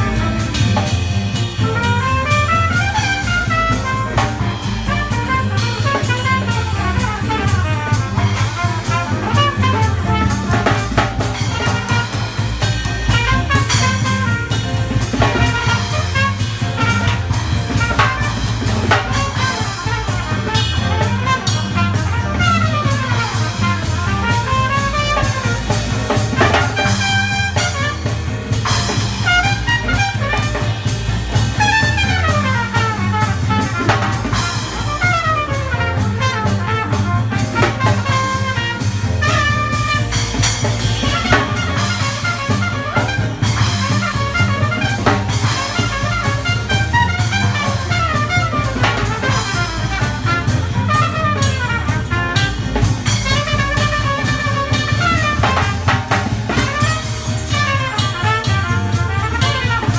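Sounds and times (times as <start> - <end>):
drums: 0.0 - 59.9
jazz band playing: 0.0 - 59.9
trumpet melody: 0.0 - 59.9
upright double bass: 0.0 - 59.9.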